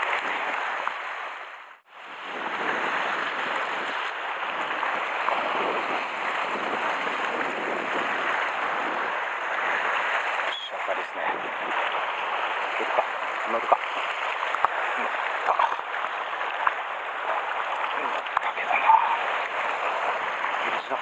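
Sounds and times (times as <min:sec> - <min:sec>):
sea waves against rocks: 0:00.0 - 0:21.0.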